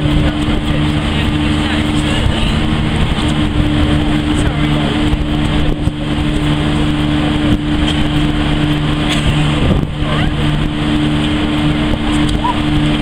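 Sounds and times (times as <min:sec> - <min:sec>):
ferry engines droning: 0:00.0 - 0:13.0
sea rushing: 0:00.0 - 0:13.0
wind rushing: 0:01.2 - 0:13.0.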